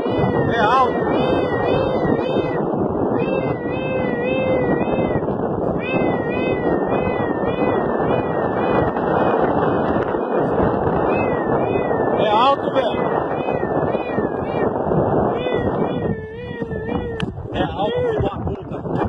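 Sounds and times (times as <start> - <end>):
man imitating police siren: 0.0 - 19.0
steady rushing noise: 0.0 - 19.0.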